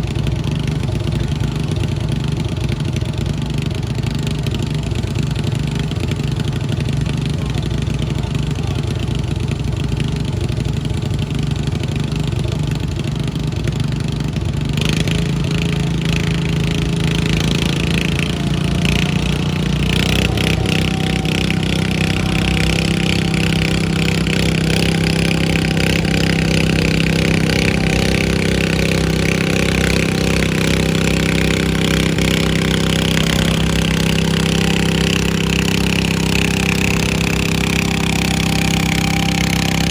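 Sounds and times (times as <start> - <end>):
lawn mower engine revving: 0.0 - 39.9.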